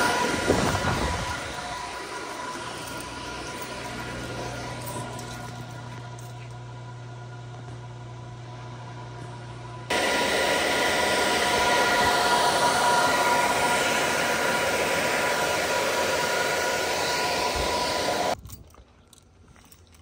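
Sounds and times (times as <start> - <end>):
cooling fans rushing with high whine: 0.0 - 18.4.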